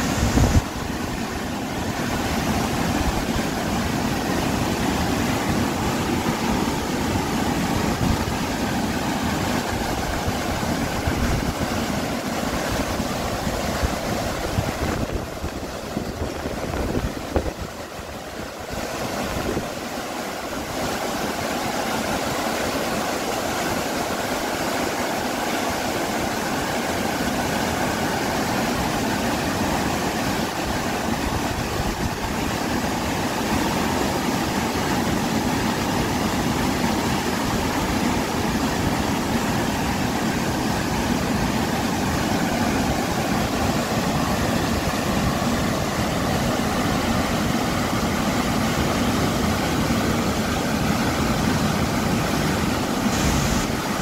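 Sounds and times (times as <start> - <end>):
water rushing over rapids: 0.0 - 54.0.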